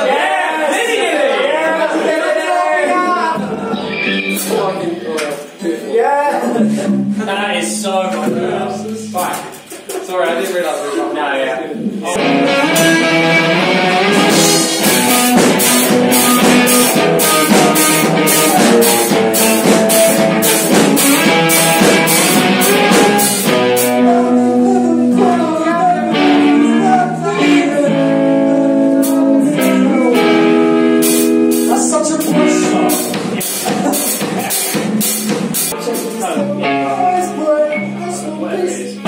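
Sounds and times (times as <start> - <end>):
rock band playing: 0.0 - 5.0, 12.1 - 39.0
drums: 0.0 - 5.6, 6.2 - 38.2.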